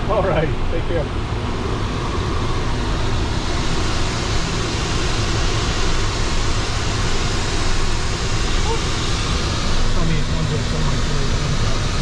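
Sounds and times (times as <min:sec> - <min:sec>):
jet engine and airflow rush: 0:00.0 - 0:12.0.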